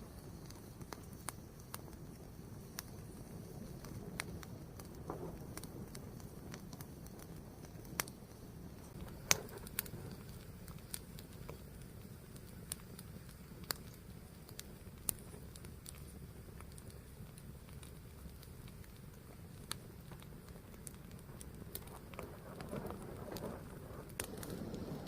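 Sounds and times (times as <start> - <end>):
fire crackling and popping: 0.0 - 25.0
fire rushing: 0.0 - 25.0.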